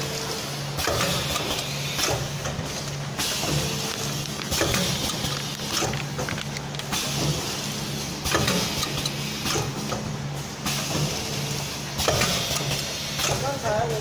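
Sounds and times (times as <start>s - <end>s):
machine hissing bursts: 0.0s - 6.2s, 6.9s - 14.0s
machine motor hum: 0.0s - 14.0s.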